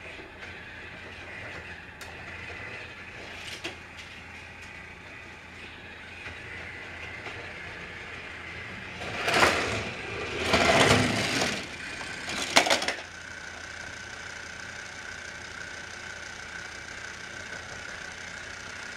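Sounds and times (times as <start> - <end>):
toy train motor whining: 0.0 - 18.9.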